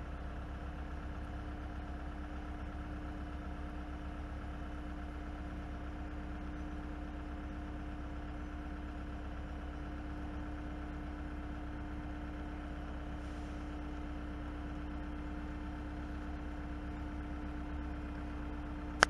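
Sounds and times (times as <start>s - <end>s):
heavy diesel engine rumbling: 0.0s - 19.0s.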